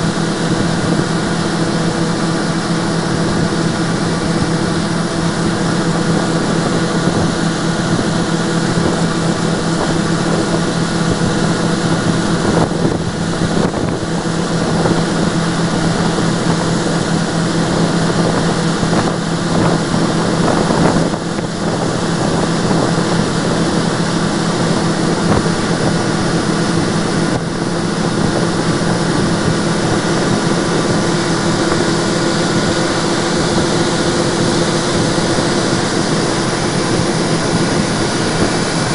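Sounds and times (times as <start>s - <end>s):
combine harvester engine drone: 0.0s - 38.9s
grain pouring from auger: 0.0s - 38.9s.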